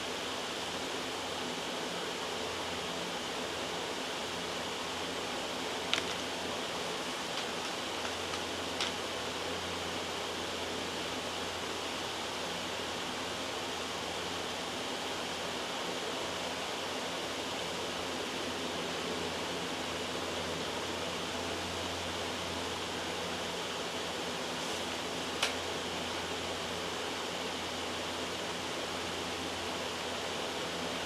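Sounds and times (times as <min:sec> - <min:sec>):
steady white noise hiss: 0:00.0 - 0:31.0.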